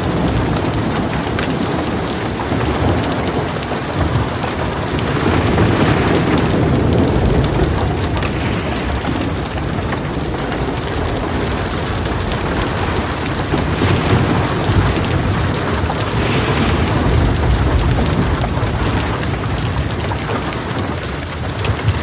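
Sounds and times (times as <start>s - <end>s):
heavy rain on a metal roof: 0.0s - 22.0s
low rumble of thunder: 0.0s - 22.0s.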